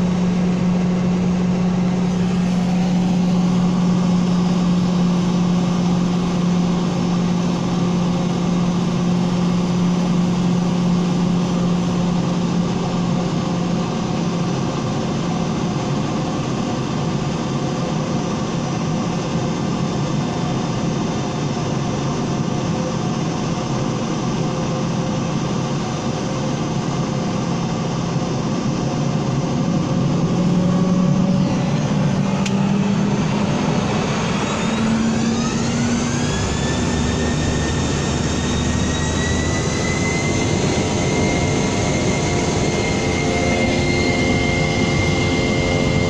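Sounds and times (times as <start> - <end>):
jet engines whining from cabin: 0.0 - 46.0.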